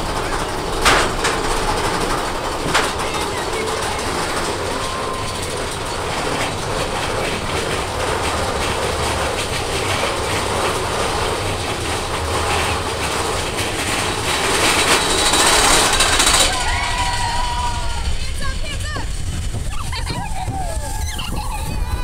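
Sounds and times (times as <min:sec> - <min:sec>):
roller coaster rumble and clatter: 0:00.0 - 0:22.0.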